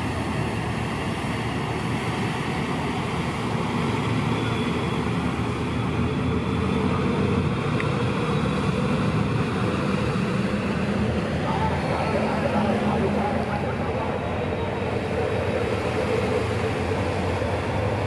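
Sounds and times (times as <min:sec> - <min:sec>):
ferry diesel engines droning: 0:00.0 - 0:18.0
propeller churning water: 0:00.0 - 0:18.0.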